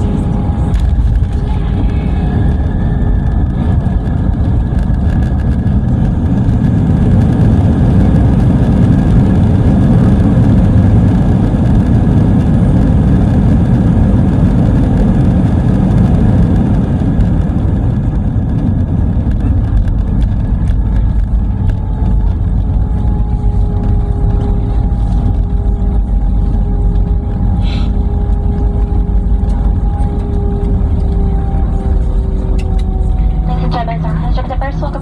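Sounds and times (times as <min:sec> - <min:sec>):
jet engine and runway roll: 0:00.0 - 0:35.0.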